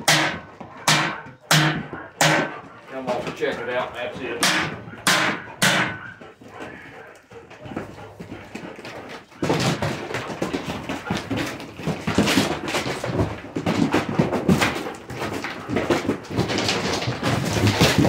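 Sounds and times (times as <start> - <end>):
dog paws scrabbling on gravel: 2.0 - 5.0, 6.0 - 18.0.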